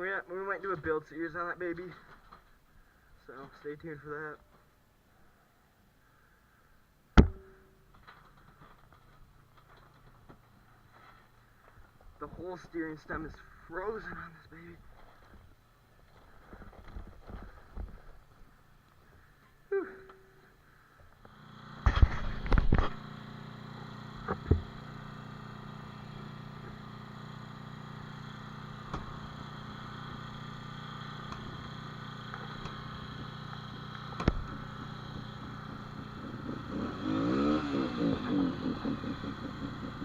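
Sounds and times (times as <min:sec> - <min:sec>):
dirt bike engine: 0:07.0 - 0:40.0.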